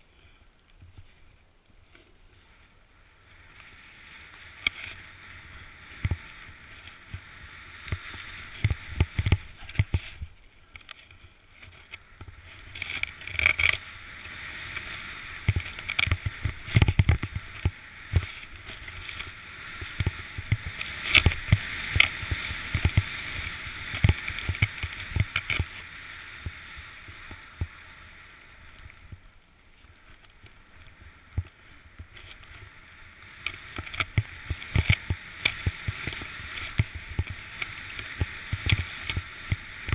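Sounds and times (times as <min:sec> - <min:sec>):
snowboard hissing through powder: 0:02.3 - 0:10.4, 0:11.7 - 0:39.9.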